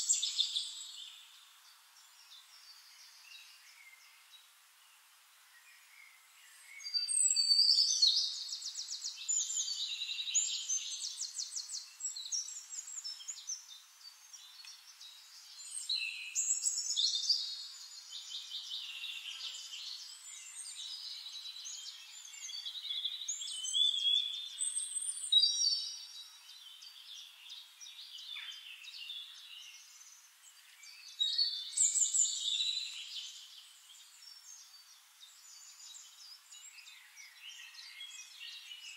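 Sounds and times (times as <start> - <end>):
faint bird chirps: 0.0 - 38.9.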